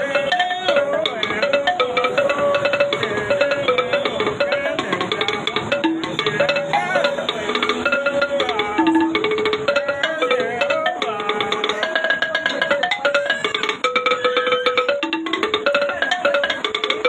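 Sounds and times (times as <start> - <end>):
fast clicking percussion: 0.0 - 17.0
melody of held notes: 0.0 - 17.0.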